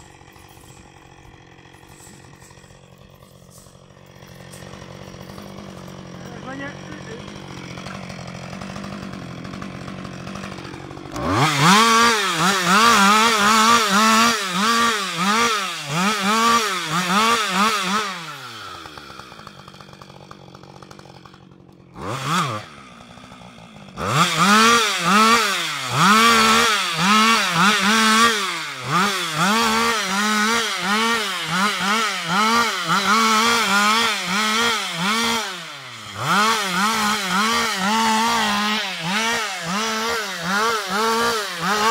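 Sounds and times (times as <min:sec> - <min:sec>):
chainsaw idling and revving: 0:00.0 - 0:41.9.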